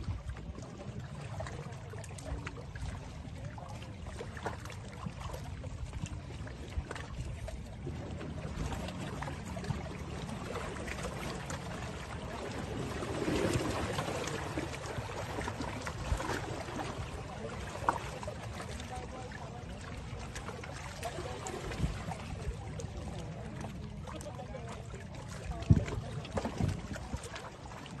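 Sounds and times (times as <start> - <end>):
small waves lapping: 0.0 - 28.0.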